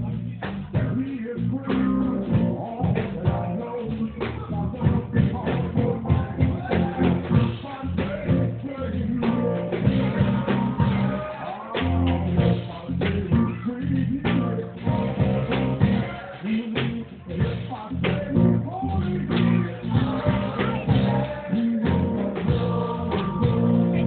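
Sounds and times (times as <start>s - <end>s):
bass line: 0.0s - 24.0s
guitar: 0.0s - 24.0s
steady drum beat: 0.0s - 24.0s
worship band with singing: 0.0s - 24.0s.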